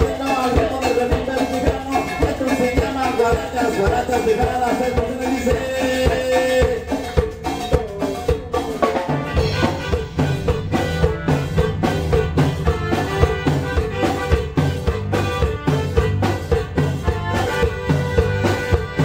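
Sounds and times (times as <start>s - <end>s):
band playing instrumental music: 0.0s - 19.0s
drum kit beat: 0.0s - 19.0s.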